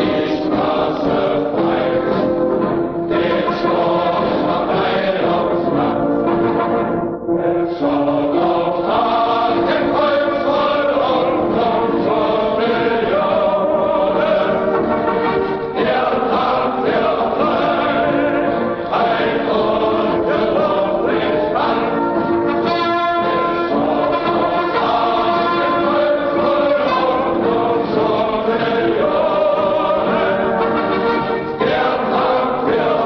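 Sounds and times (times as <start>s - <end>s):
choir singing slow anthem: 0.0s - 6.5s, 7.3s - 33.0s.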